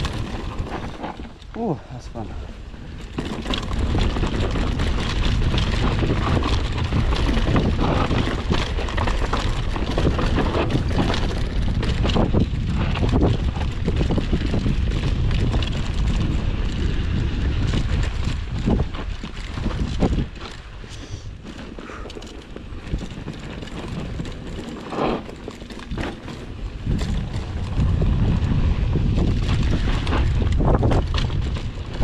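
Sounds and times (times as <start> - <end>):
bike knocking and rattling: 0.0 - 32.0
tyres rolling over dirt and stones: 0.0 - 32.0
wind buffeting microphone: 0.0 - 32.0.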